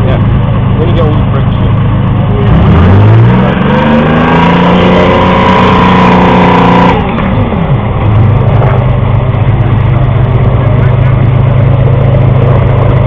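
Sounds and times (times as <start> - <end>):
tracked vehicle engine revving: 0.0 - 13.0.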